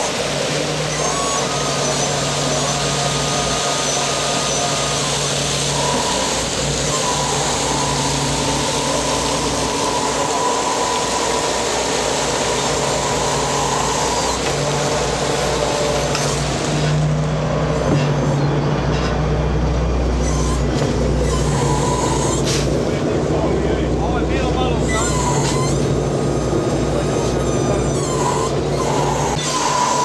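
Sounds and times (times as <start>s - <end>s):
engine low hum: 0.0s - 30.0s
high whine: 0.0s - 30.0s.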